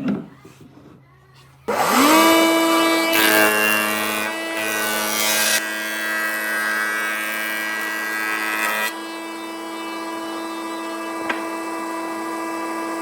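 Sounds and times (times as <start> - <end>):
power tool motor high pitch: 1.7 - 13.0.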